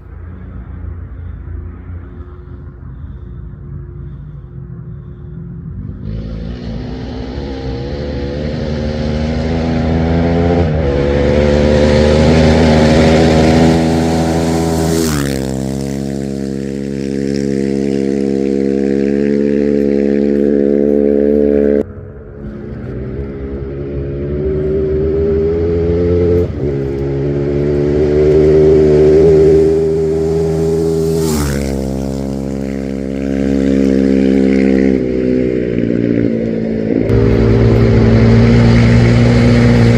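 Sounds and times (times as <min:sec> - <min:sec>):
vehicles passing at full throttle: 0:00.0 - 0:39.9.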